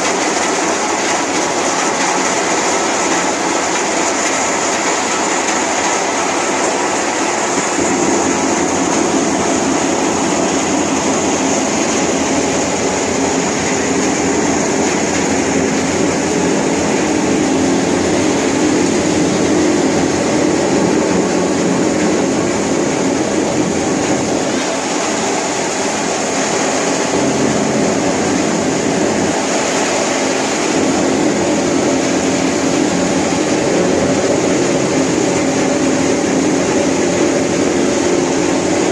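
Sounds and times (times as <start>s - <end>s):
crusher machine running: 0.0s - 38.9s.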